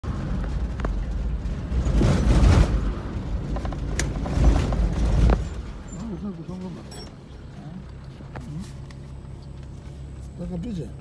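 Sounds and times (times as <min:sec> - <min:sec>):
vehicle rumbling over rough track: 0:00.0 - 0:11.0.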